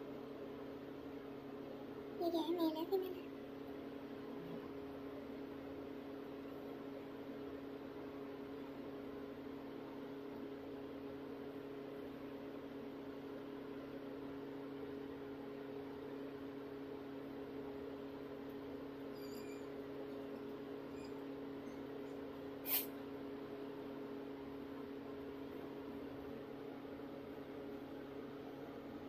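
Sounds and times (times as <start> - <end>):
electric appliance hum: 0.0 - 29.0.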